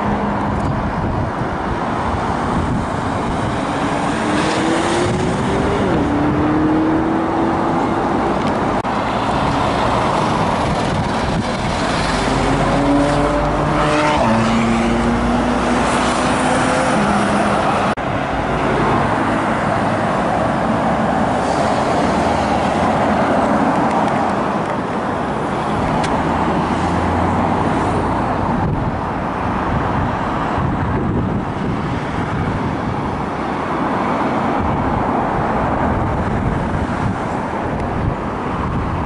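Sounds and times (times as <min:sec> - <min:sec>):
road traffic noise: 0:00.0 - 0:39.0.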